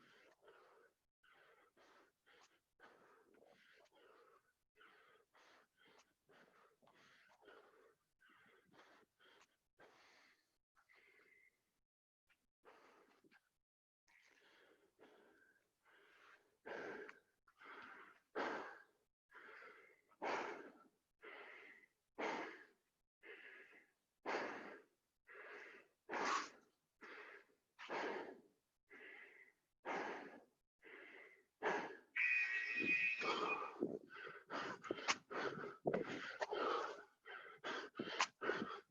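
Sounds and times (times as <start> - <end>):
man breathing hard: 0.0 - 11.7, 14.2 - 38.9.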